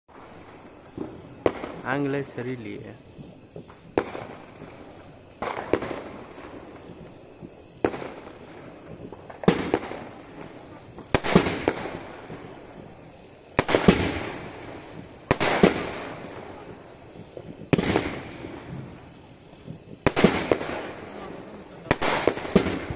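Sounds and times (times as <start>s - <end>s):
fireworks bangs: 0.1s - 22.9s.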